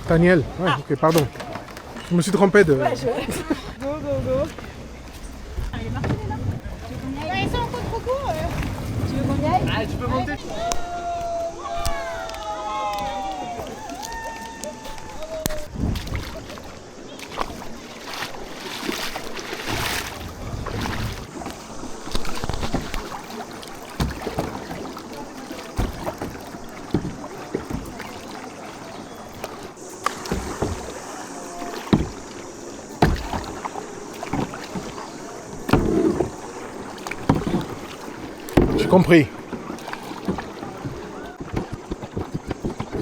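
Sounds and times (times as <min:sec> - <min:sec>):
paddle splashing in water: 0:00.0 - 0:43.0
paddle knocking against hull: 0:03.8 - 0:12.4, 0:13.0 - 0:43.0.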